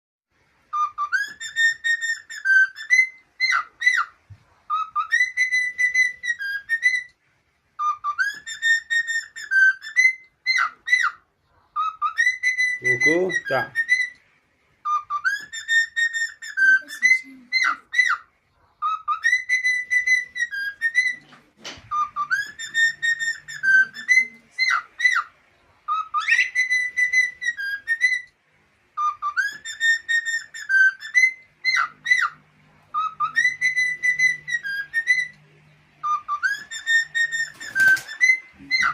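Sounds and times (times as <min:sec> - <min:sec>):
cockatiel whistling a tune: 0:00.7 - 0:07.2, 0:07.8 - 0:11.2, 0:11.8 - 0:14.2, 0:14.8 - 0:25.3, 0:25.9 - 0:28.3, 0:29.0 - 0:35.4, 0:36.0 - 0:38.9.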